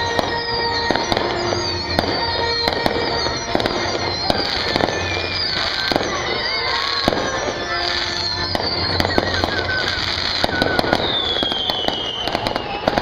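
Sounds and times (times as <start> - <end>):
fireworks bangs and cracks: 0.0 - 13.0
fireworks crackling rumble: 0.0 - 13.0.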